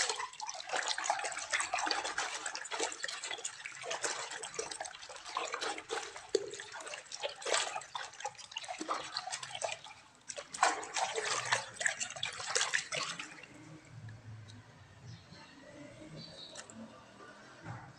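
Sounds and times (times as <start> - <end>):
hands kneading wet clay in water: 0.0 - 15.3, 16.2 - 17.4.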